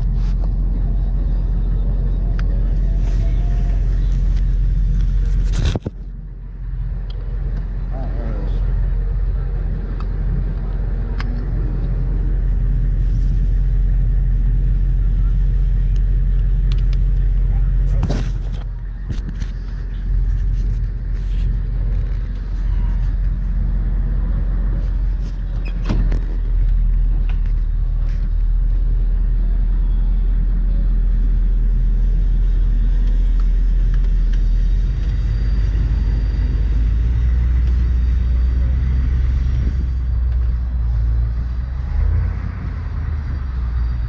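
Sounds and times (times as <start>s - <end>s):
car rumbling in motion: 0.0s - 44.0s.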